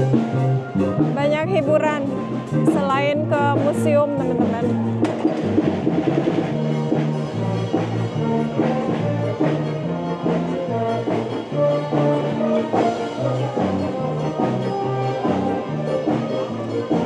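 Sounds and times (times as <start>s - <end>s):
brass music with bass line: 0.0s - 17.0s.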